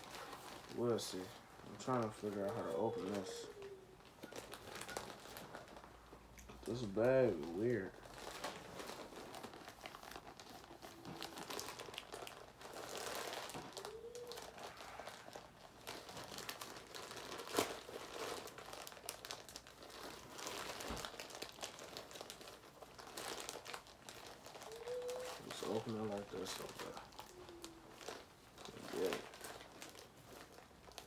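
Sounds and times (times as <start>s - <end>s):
plastic bag crinkling: 0.0s - 31.0s.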